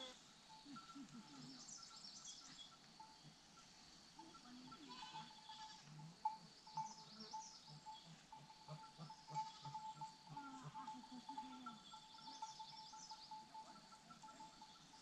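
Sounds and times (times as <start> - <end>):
distant birds chirping: 0.0 - 15.0
faint low animal calls: 0.0 - 15.0.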